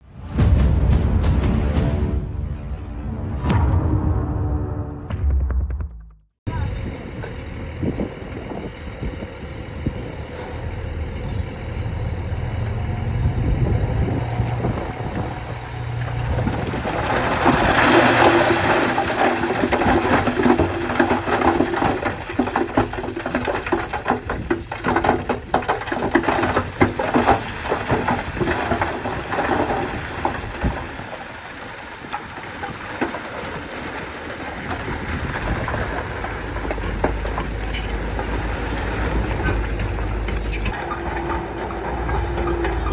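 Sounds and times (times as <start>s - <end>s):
heavy diesel engine: 6.5s - 42.9s
rattling and clanking: 7.2s - 42.9s.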